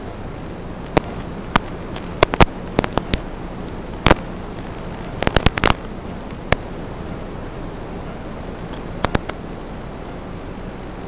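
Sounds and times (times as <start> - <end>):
faint hum: 0.0 - 11.0
radio static hiss: 0.0 - 11.0
static crackles and pops: 0.0 - 11.0.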